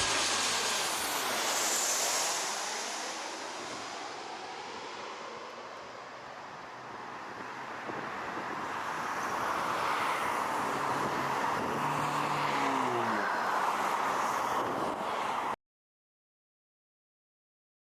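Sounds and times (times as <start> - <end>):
jet airliner passing overhead: 0.0 - 15.6.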